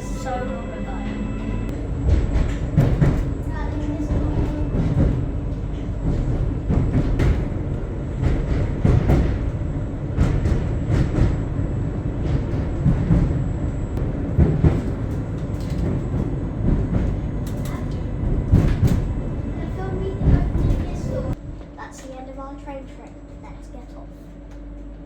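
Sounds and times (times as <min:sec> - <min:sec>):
electric train rumble: 0:00.0 - 0:25.0.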